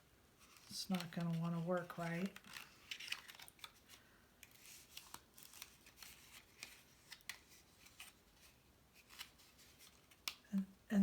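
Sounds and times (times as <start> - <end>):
cardstock rustling and folding: 0.4 - 10.5.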